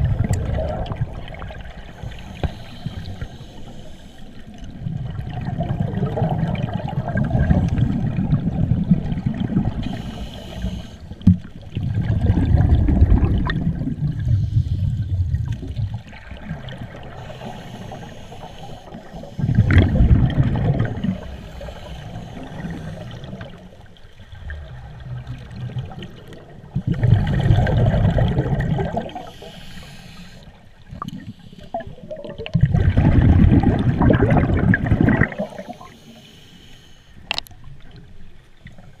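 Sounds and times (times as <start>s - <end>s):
underwater regulator bubbles: 0.0s - 3.6s, 4.5s - 23.7s, 24.4s - 36.1s.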